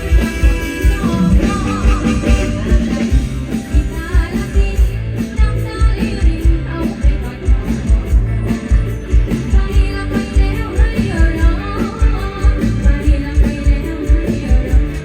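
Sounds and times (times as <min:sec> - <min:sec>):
band music with electric instruments: 0:00.0 - 0:15.0
person singing: 0:00.0 - 0:15.0.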